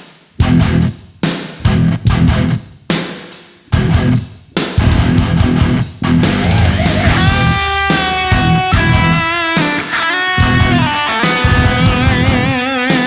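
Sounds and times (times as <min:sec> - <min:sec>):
heavy rock electric guitar: 0:00.4 - 0:01.0, 0:01.6 - 0:02.8, 0:03.8 - 0:13.0.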